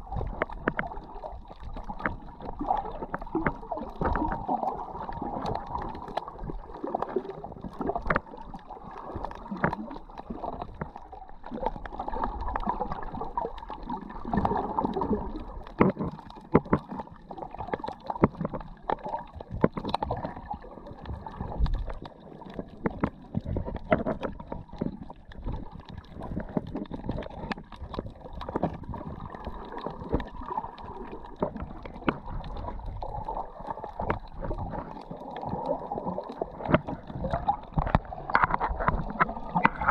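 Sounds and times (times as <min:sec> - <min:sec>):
muffled underwater rush: 0:00.0 - 0:39.9
underwater clicks and pops: 0:00.0 - 0:39.9.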